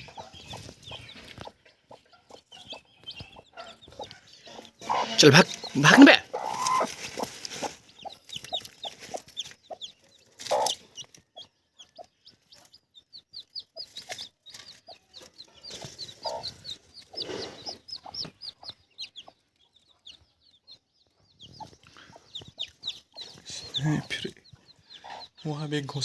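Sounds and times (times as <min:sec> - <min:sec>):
chicks peeping: 0:00.0 - 0:26.0
hen clucking: 0:00.0 - 0:26.0.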